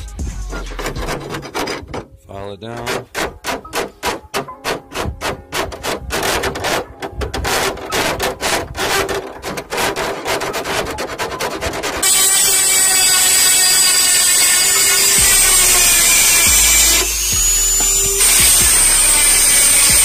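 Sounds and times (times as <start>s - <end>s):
metal file rasping on steel: 0.4s - 2.1s, 2.7s - 20.0s
rotary grinding tool whining: 0.6s - 2.1s, 2.7s - 20.0s.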